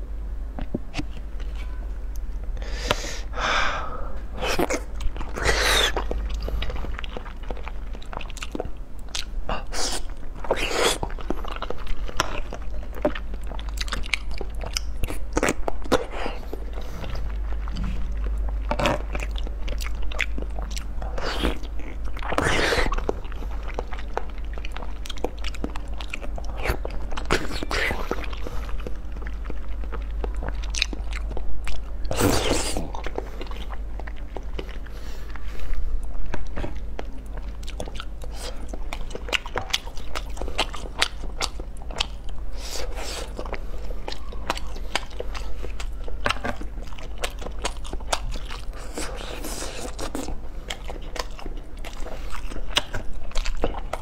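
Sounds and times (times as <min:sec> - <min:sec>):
person chewing soft food: 0:00.5 - 0:54.0.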